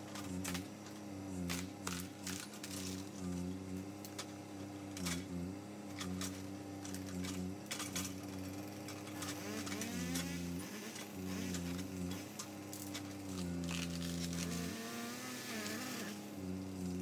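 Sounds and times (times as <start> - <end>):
engine running under load: 0.0 - 17.0.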